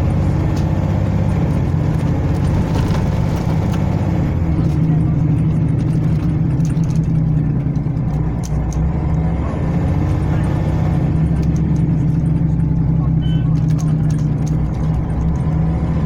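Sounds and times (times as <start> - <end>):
bus engine drone: 0.0 - 16.0
interior clicks and rattles: 0.0 - 16.0.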